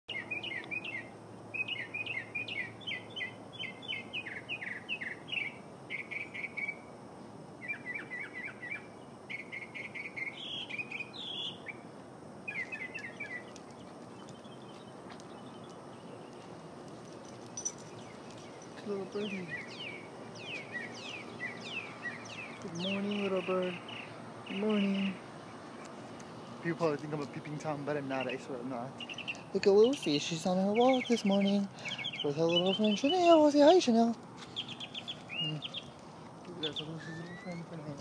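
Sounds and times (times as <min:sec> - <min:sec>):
songbird chirping: 0:00.1 - 0:38.0.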